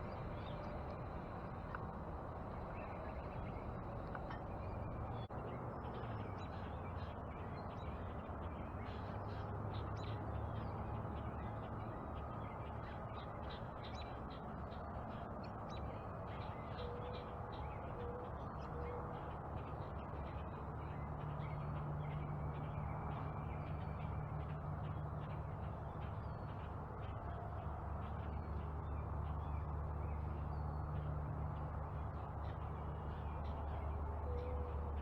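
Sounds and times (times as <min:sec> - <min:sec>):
low outdoor background noise: 0:00.0 - 0:35.0.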